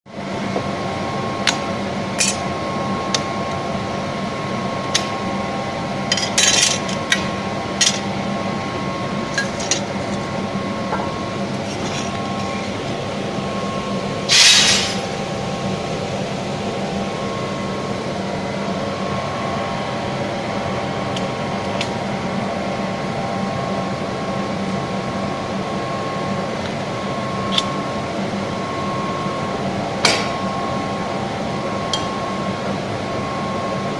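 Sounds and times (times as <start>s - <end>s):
glass-cutting machine hum: 0.1s - 33.9s.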